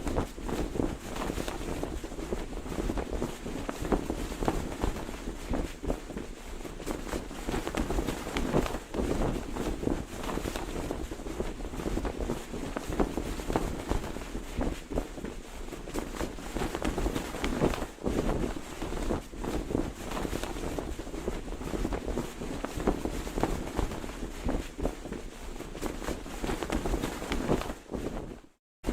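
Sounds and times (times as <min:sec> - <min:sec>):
flag flapping in wind: 0:00.0 - 0:28.9.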